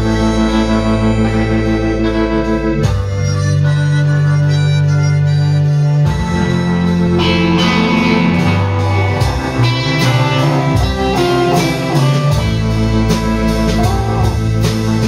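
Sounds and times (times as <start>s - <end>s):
harmonica: 0.0s - 15.0s
live folk-rock band playing: 0.0s - 15.0s.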